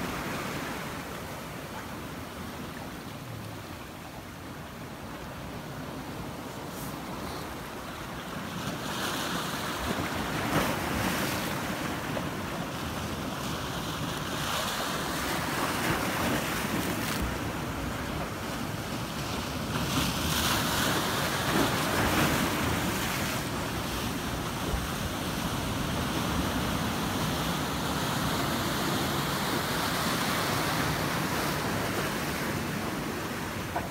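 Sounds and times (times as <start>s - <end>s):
waves breaking: 0.0s - 33.9s.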